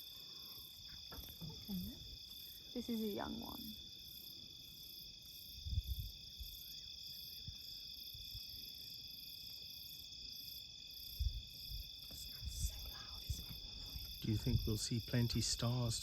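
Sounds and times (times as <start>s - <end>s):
crickets trilling: 0.0s - 16.0s
fast pulsing insect trill: 0.0s - 16.0s.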